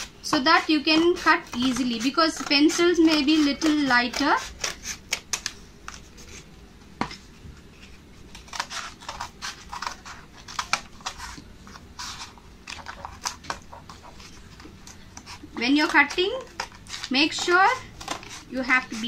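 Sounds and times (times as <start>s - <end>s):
scissors cutting cardboard: 0.0s - 6.5s, 8.3s - 19.0s.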